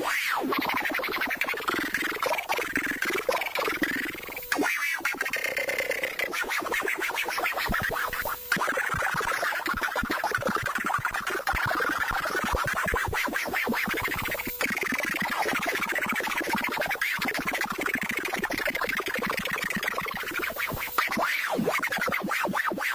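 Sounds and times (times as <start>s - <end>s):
buzzing noise band: 0.0s - 22.3s
glitchy synthesizer crackle: 0.5s - 22.3s.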